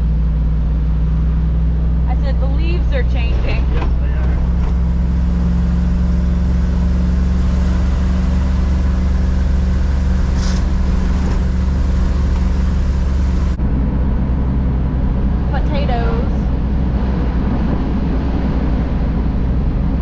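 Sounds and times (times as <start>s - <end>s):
truck cab engine and road noise: 0.0s - 20.0s.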